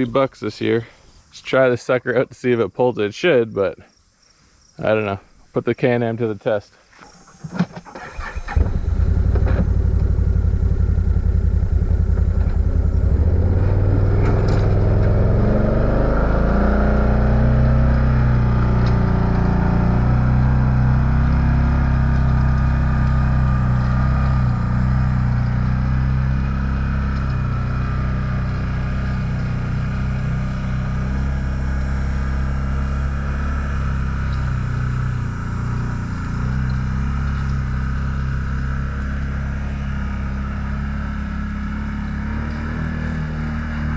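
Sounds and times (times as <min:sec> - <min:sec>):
off-road vehicle engine under load: 0:07.0 - 0:43.9.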